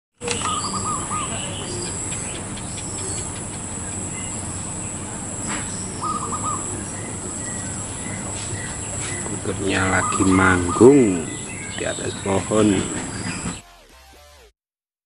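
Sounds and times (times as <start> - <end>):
dove cooing: 0.2 - 13.6
small birds chirping: 0.2 - 13.6
steady high-pitched whine: 0.2 - 13.8.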